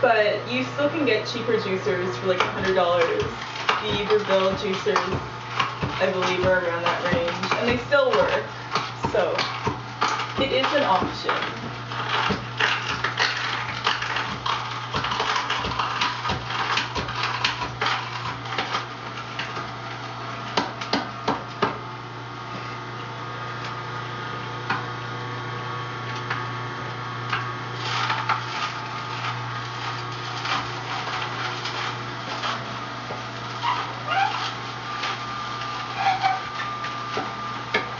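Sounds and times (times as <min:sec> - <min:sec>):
electric juicer motor hum: 0:00.0 - 0:37.9.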